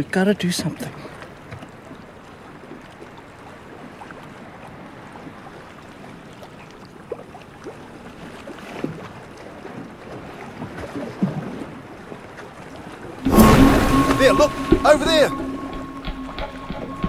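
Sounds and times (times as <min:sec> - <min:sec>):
water lapping: 0:00.0 - 0:17.0
wind: 0:00.0 - 0:17.0.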